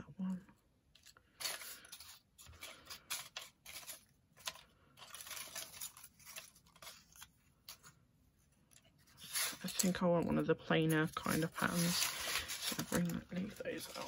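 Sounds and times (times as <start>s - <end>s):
paper pieces rustling and clicking: 0.9s - 8.0s, 8.7s - 10.1s, 10.7s - 14.0s.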